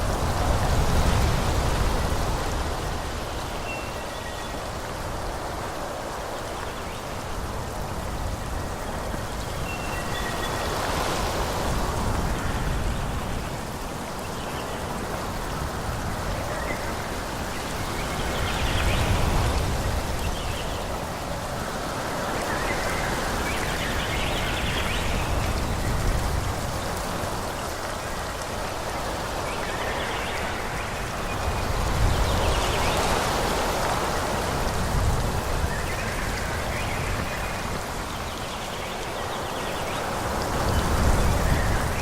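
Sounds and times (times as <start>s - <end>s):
wind through trees: 0.0s - 42.0s.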